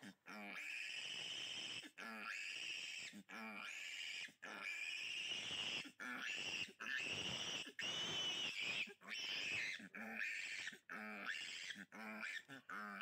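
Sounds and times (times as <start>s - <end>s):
piglet squealing: 0.3s - 13.0s.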